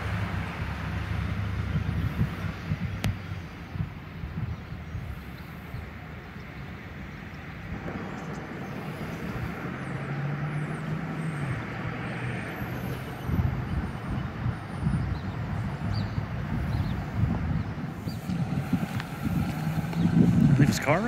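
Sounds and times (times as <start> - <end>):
motor vehicle passing: 0.0 - 21.0.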